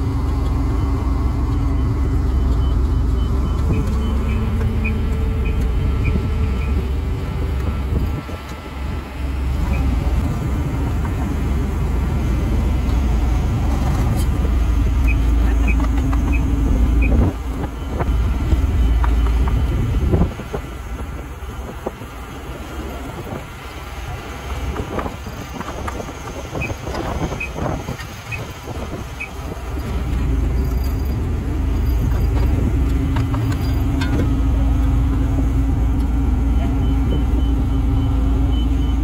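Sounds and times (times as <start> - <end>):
diesel paving machine rumbling: 0.0 - 39.0.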